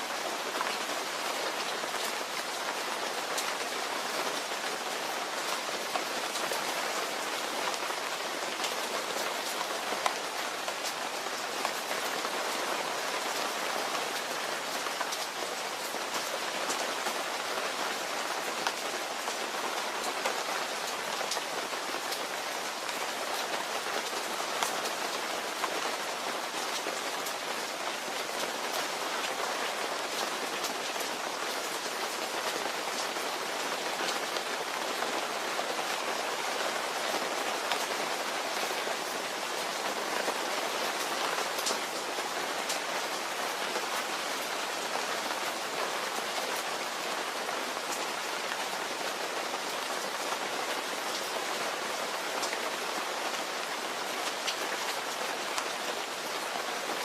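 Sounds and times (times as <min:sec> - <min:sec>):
rain falling: 0:00.0 - 0:57.0
raindrops pattering on a surface: 0:00.0 - 0:57.0.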